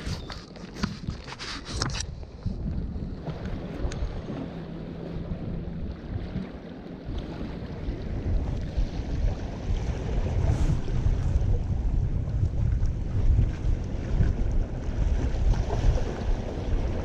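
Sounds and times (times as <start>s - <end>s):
sea waves washing: 0.0s - 17.0s
wind rumbling on microphone: 0.0s - 17.0s.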